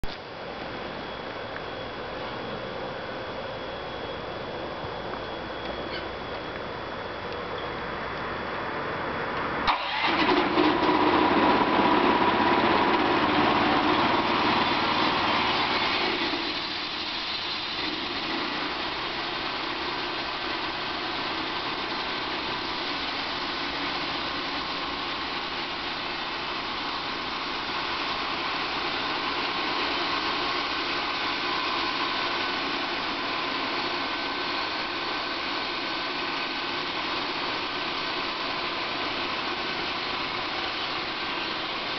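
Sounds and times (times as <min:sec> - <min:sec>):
sawmill engine starting and running: 0:00.0 - 0:41.9.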